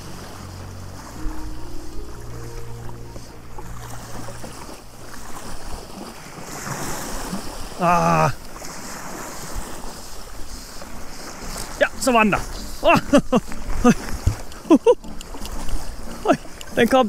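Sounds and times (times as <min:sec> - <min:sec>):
small waves washing on shore: 0:00.0 - 0:17.0
wind buffeting microphone: 0:00.0 - 0:17.0.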